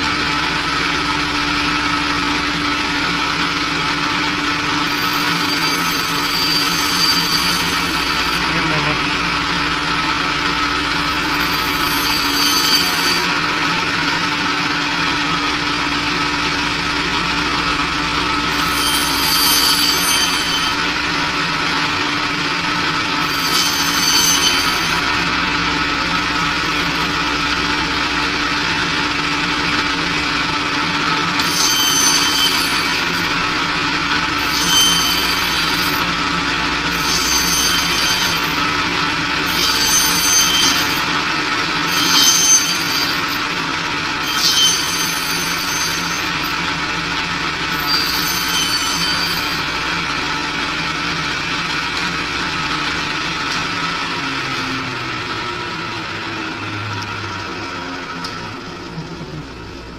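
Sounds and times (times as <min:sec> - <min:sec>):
band saw motor hum: 0:00.0 - 0:59.9
saw blade ringing whine: 0:00.0 - 0:59.9.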